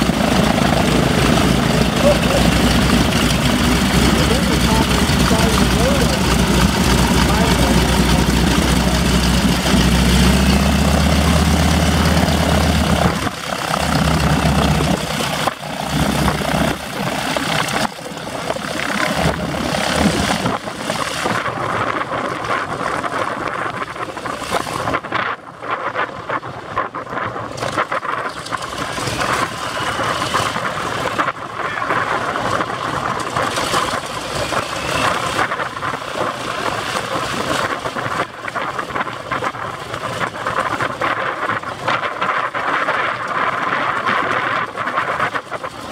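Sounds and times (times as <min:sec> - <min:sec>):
propeller aircraft engine hum: 0:00.0 - 0:45.9
wind on microphone: 0:00.0 - 0:45.9.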